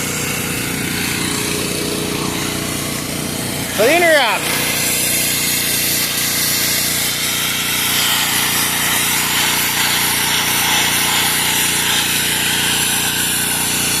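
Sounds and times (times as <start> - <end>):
pressure washer motor drone: 0.0 - 14.0
water jet spraying: 0.0 - 14.0.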